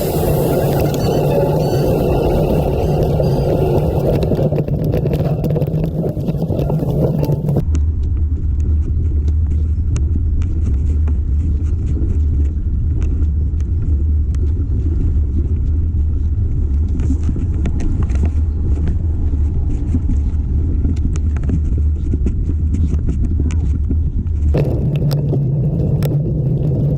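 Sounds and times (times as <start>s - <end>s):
wind rumble on microphone: 0.0s - 26.9s.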